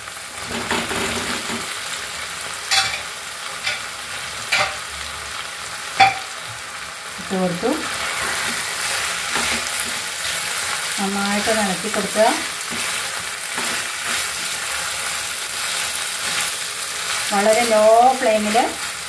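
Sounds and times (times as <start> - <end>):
oil sizzling in a pan: 0.0 - 19.0.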